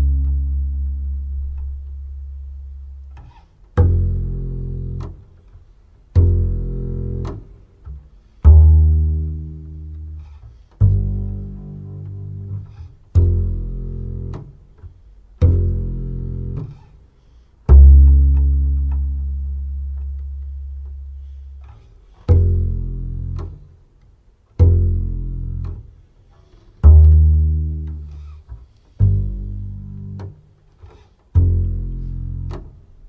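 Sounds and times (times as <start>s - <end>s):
double bass plucked low notes: 0.0s - 33.0s.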